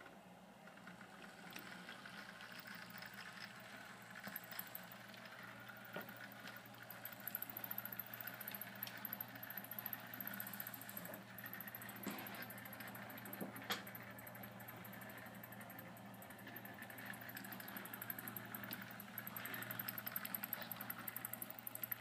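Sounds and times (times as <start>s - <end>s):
model train motor hum: 0.0s - 22.0s
model train rattling: 0.0s - 22.0s.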